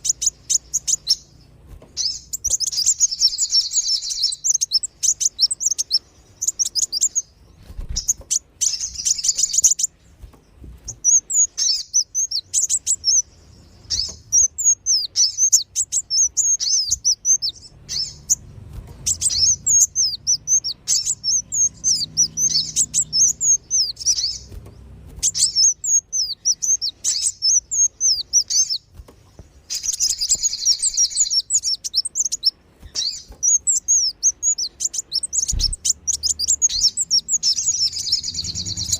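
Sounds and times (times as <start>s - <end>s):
sunbirds chirping: 0.0s - 38.9s.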